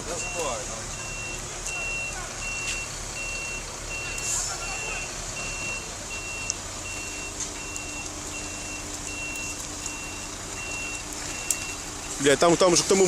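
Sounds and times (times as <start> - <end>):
reversing alarm beeping: 0.0 - 12.4
heavy engine idling: 0.0 - 13.0.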